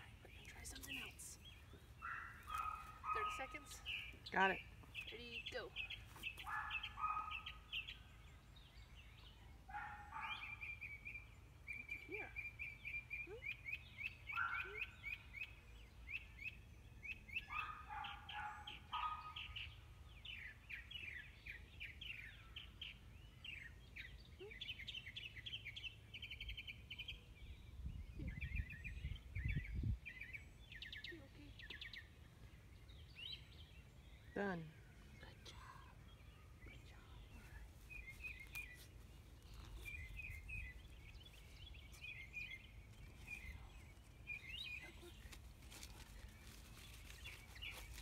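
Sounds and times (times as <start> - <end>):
birds singing and chirping: 0.0 - 48.0.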